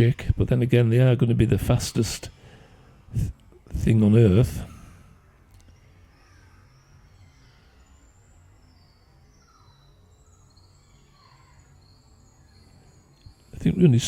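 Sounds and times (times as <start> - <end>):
distant birds calling: 0.0 - 14.0
low steady background hum: 0.0 - 14.0.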